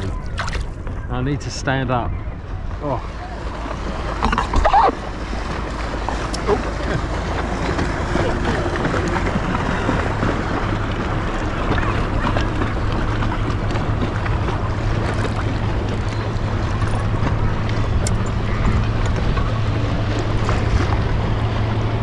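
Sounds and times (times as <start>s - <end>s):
water rushing: 0.0s - 22.0s
electric trolling motor humming: 3.2s - 22.0s.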